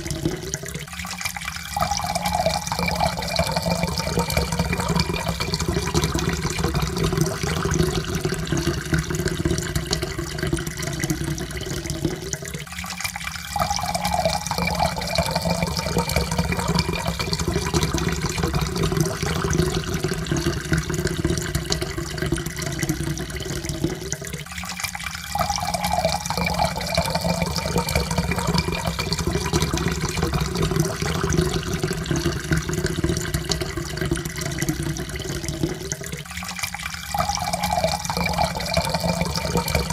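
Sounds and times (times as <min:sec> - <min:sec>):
water pouring into a cup: 0:00.0 - 0:39.9.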